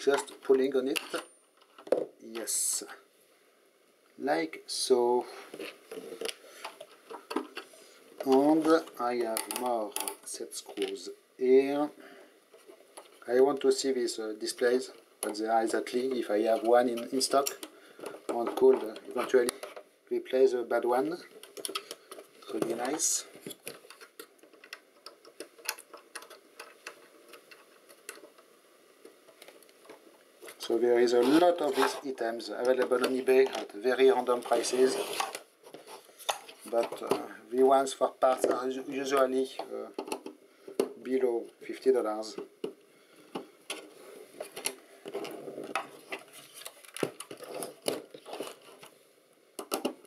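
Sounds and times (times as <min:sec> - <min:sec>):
rustling: 0:05.0 - 0:39.8, 0:43.0 - 0:49.1.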